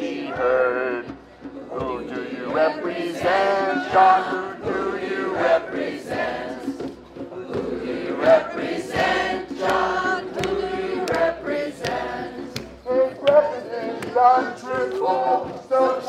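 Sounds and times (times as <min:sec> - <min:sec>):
crowd chanting: 0:00.0 - 0:16.0.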